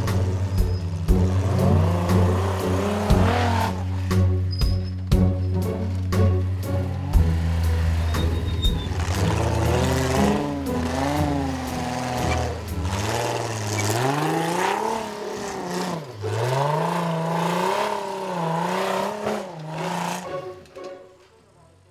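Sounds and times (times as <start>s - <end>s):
buggy engine revving: 0.0s - 21.3s.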